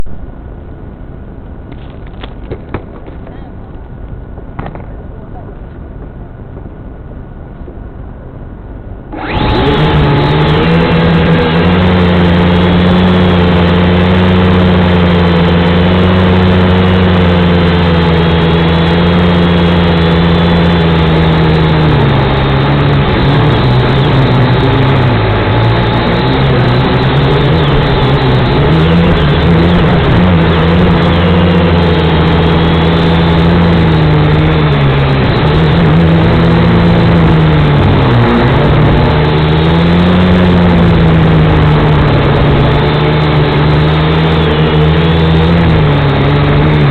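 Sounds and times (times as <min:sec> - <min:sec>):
quadcopter motors buzzing: 0:09.1 - 0:46.9.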